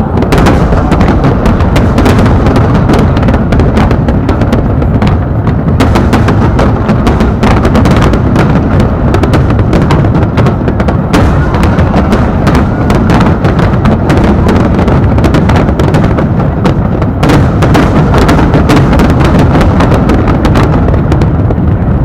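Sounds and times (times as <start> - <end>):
deep firework booms: 0.0 - 22.0
fireworks bangs and crackles: 0.0 - 22.0.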